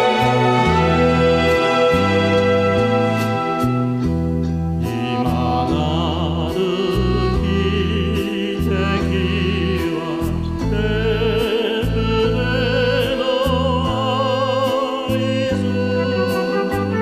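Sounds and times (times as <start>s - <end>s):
operatic singing: 0.0s - 4.0s, 4.8s - 17.0s.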